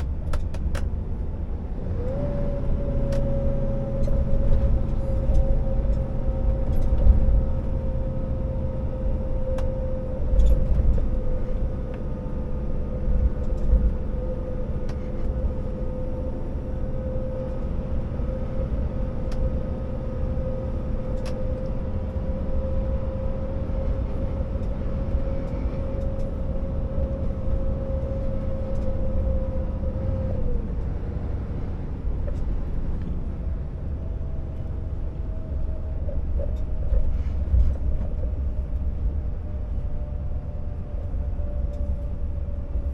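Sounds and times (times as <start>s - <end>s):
diesel truck engine rumble: 0.0s - 42.9s
steady whine: 3.0s - 42.9s.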